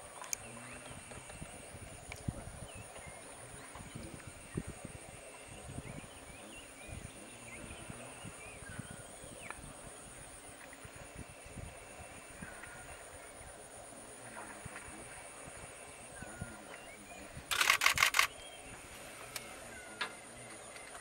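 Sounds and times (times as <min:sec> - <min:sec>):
elephant moving through water: 0:00.0 - 0:21.0
insect drone: 0:00.0 - 0:21.0.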